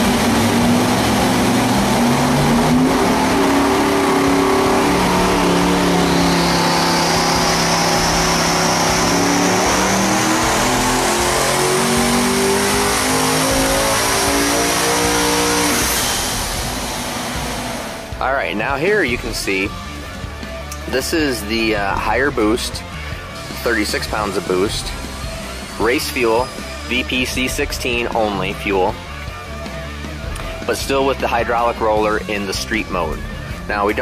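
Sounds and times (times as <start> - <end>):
engine running and revving: 0.0 - 34.0
high whine: 0.0 - 34.0.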